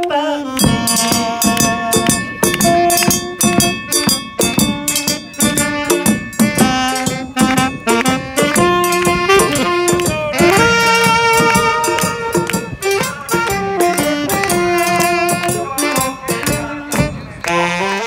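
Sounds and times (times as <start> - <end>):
saxophone melody: 0.0 - 18.0
bass drum: 0.6 - 17.8
small drums and gong strikes: 0.6 - 17.9.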